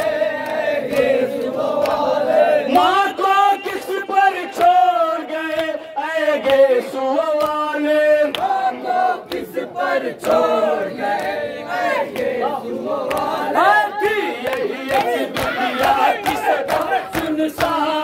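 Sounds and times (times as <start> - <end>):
crowd of men chanting: 0.0 - 18.0
men singing a lament: 0.0 - 18.0.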